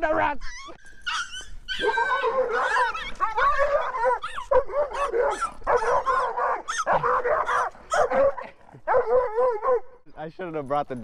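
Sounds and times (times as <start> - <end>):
puppy barking and whining: 0.0 - 10.0.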